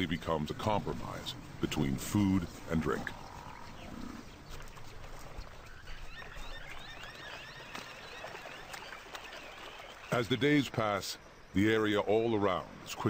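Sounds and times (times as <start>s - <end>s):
faint herd ambience: 0.0s - 13.0s.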